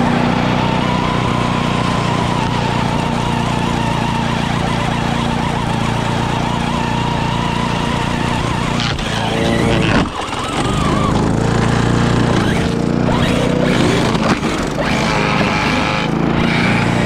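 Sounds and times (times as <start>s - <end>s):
high electric motor whine: 0.0s - 17.0s
lawn mower engine running: 0.0s - 17.0s
mower blade cutting grass: 0.0s - 17.0s.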